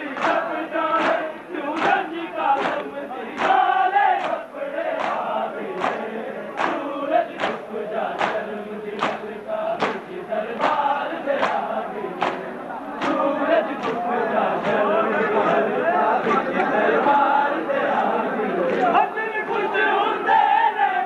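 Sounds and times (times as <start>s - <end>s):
men chanting in unison: 0.0s - 21.0s.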